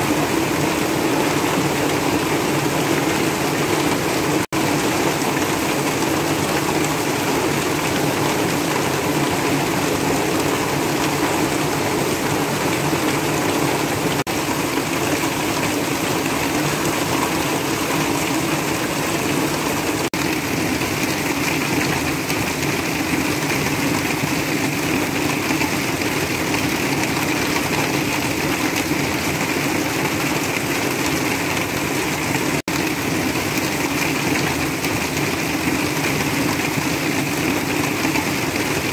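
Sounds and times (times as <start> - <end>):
heavy rain on a tin roof: 0.0 - 38.9
rainwater pouring off roof: 0.0 - 38.9.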